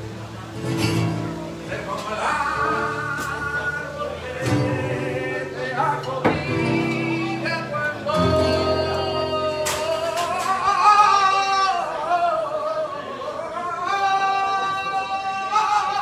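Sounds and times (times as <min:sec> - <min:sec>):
person singing flamenco: 0:00.1 - 0:16.0.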